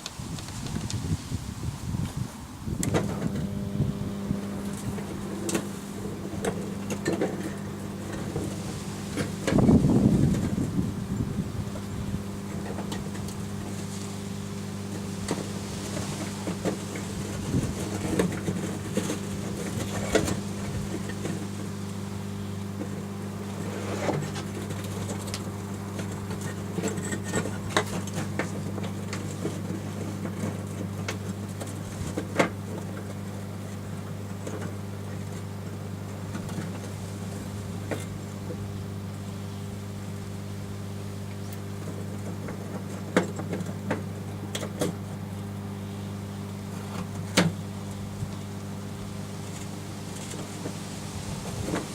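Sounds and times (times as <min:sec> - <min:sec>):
microwave oven humming: 0:02.5 - 0:51.9.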